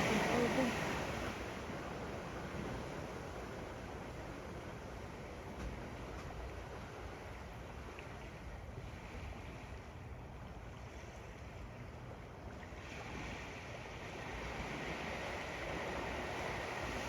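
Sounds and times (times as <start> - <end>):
ocean waves on sandy beach: 0.0 - 17.0.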